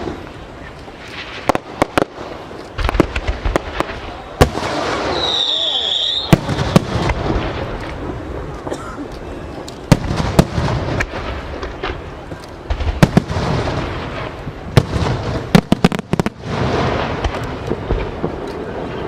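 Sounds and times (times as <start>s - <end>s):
firework bangs: 0.0s - 19.0s
firework crackle and rumble: 0.0s - 19.0s.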